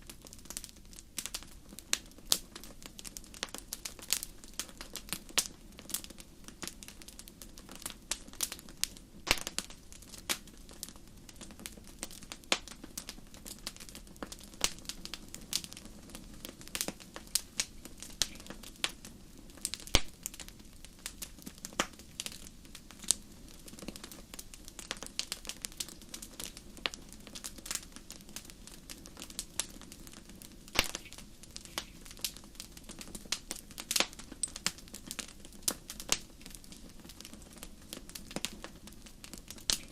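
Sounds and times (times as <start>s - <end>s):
low roar of flames: 0.0s - 39.9s
wood fire crackling and popping: 0.0s - 39.9s.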